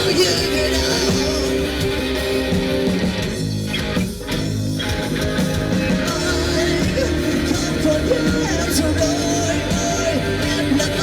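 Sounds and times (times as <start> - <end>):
rock band instrumental: 0.0 - 11.0.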